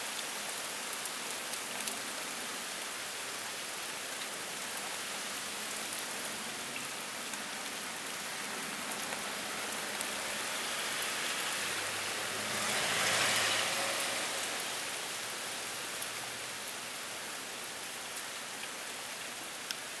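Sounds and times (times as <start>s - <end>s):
heavy rain pouring: 0.0s - 20.0s
raindrops ticking on surfaces: 0.0s - 20.0s.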